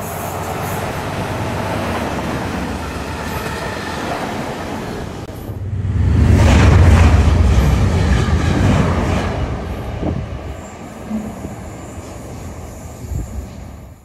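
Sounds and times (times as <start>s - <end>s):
diesel locomotive engine rumble: 0.0s - 14.0s
rail noise: 0.0s - 14.0s.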